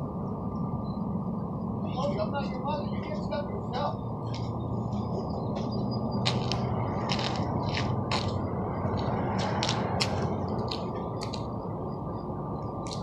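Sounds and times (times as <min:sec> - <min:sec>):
steady low rushing noise: 0:00.0 - 0:13.0.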